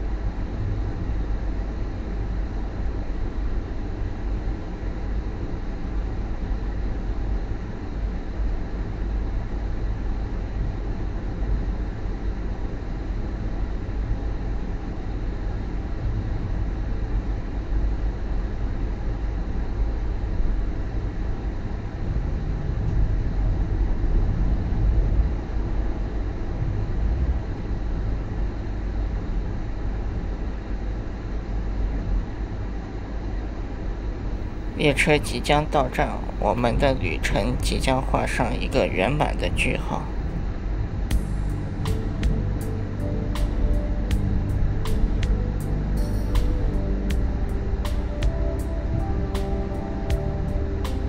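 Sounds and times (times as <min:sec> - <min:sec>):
moving train rumbling: 0:00.0 - 0:51.0.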